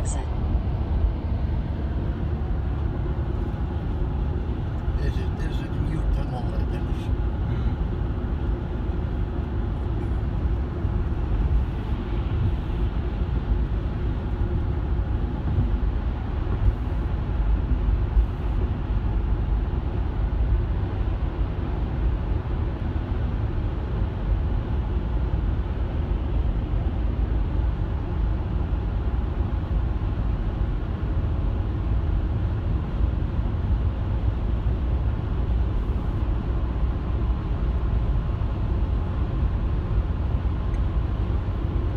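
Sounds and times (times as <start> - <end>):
car engine and road rumble: 0.0 - 41.9.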